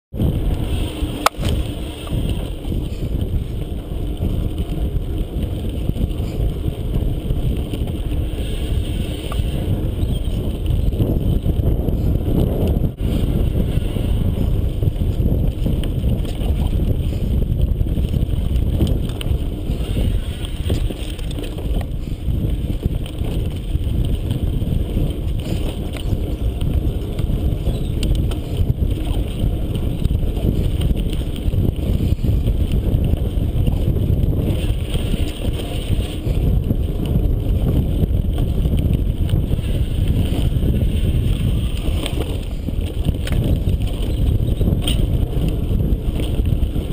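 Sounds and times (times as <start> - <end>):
bike tyres rumbling on dirt: 0.1 - 46.9
wind buffeting on microphone: 0.1 - 46.9
bike clicks and knocks: 0.3 - 46.9.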